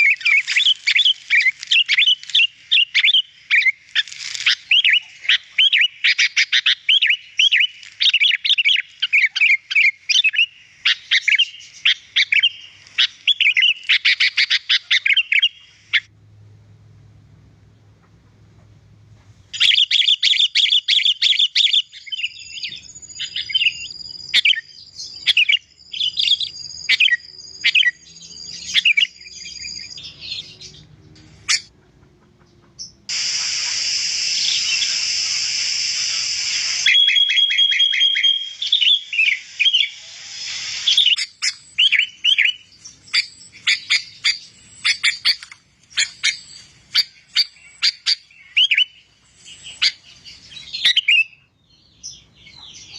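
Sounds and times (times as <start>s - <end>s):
bird singing high chirps: 0.0s - 16.1s, 19.5s - 31.7s, 32.8s - 52.9s
harsh hissing bird chatter: 0.0s - 16.1s, 19.5s - 31.7s, 32.8s - 50.9s.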